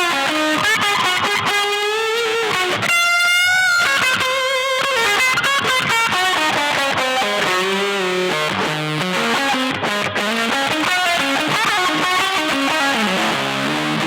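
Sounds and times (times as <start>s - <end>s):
electric guitar lead lines: 0.0s - 14.0s.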